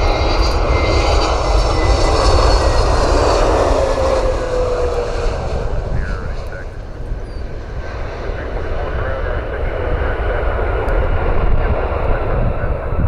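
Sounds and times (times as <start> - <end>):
engine whine sliding down: 0.0 - 11.0
jet engines roaring past: 0.0 - 13.0.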